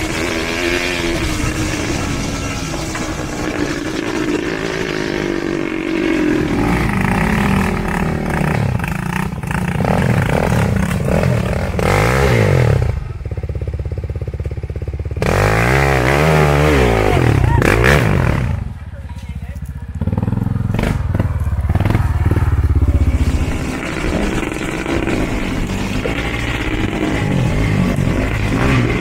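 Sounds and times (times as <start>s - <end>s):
quad bike engines revving: 0.0s - 29.0s.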